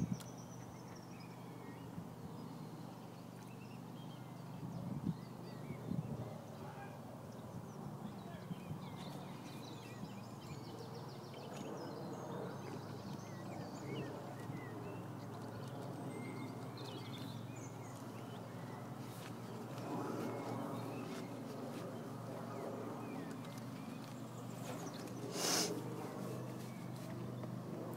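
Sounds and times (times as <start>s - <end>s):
birds chirping: 0.0s - 27.9s.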